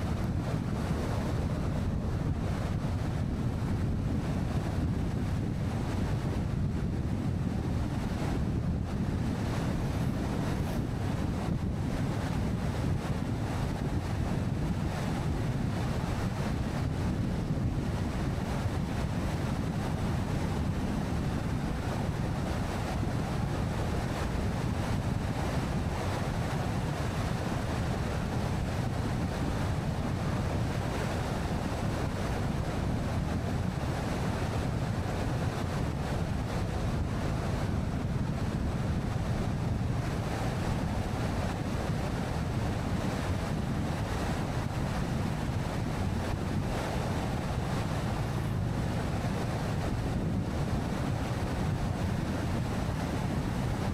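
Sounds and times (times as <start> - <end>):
car road and wind noise: 0.0 - 53.9.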